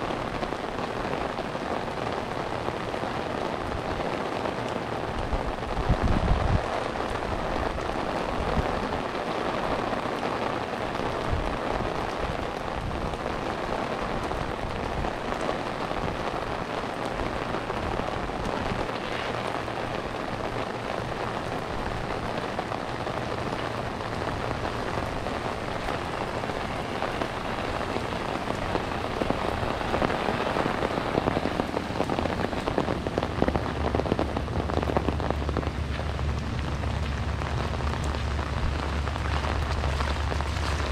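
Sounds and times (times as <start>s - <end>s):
rain on hard surfaces: 0.0s - 40.9s.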